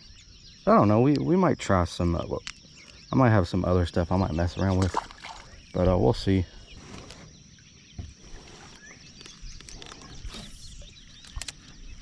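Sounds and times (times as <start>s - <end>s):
faint chirps: 0.0s - 12.0s.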